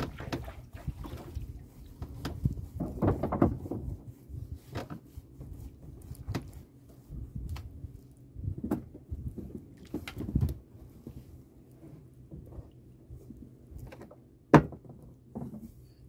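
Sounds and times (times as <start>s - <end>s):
wooden knocks and thumps in boat: 0.0s - 6.7s, 8.4s - 15.8s.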